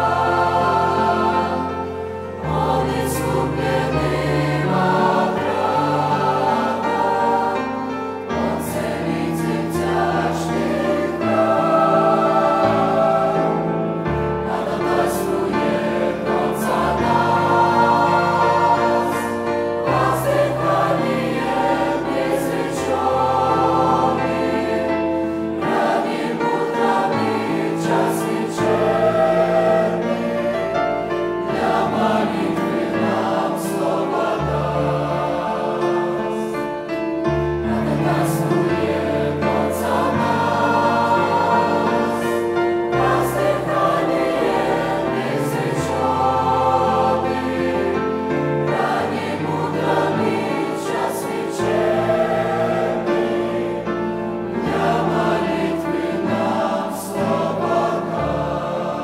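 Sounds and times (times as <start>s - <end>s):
mixed choir singing a hymn: 0.0s - 59.0s.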